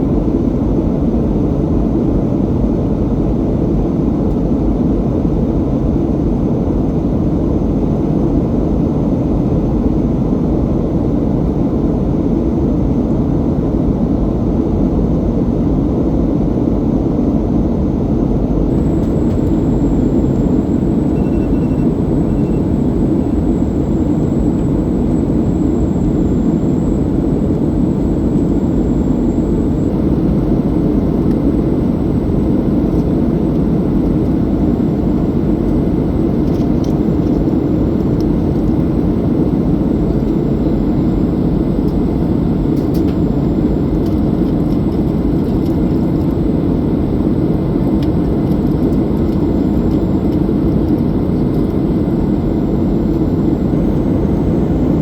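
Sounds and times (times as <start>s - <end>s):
airplane cabin hum: 0.0s - 55.0s.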